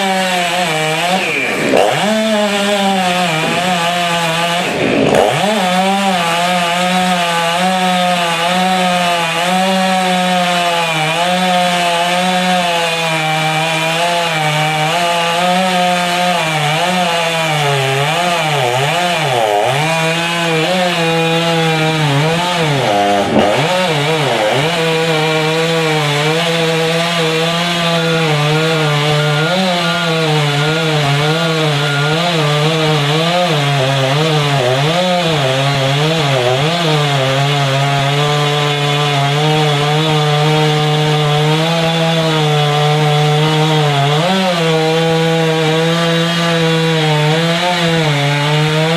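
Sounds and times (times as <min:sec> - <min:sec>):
chainsaw cutting through wood: 0:00.0 - 0:48.9.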